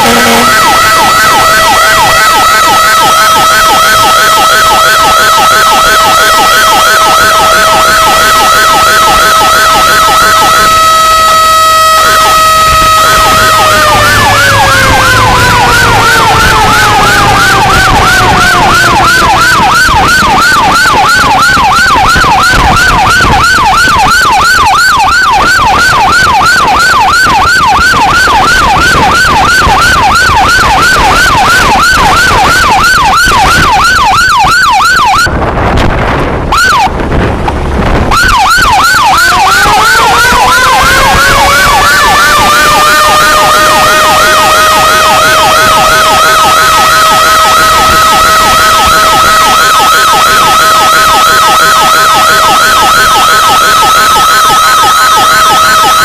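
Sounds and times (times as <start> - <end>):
fire truck siren yelping: 0.0 - 56.0
siren wail: 0.0 - 56.0.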